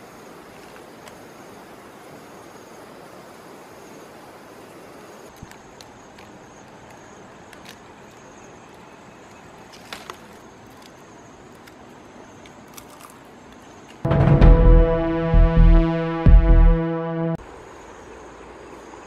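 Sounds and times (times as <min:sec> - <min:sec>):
faint high insect drone: 0:00.0 - 0:14.0, 0:17.4 - 0:19.0
outdoor background hiss: 0:00.0 - 0:19.0.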